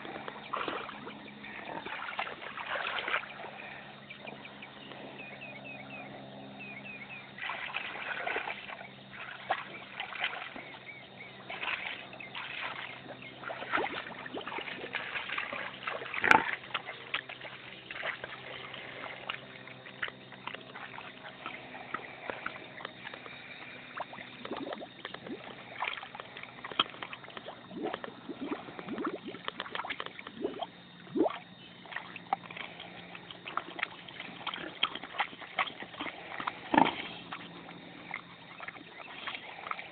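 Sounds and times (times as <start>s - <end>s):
pig splashing in water: 0.0s - 6.0s, 6.6s - 39.9s.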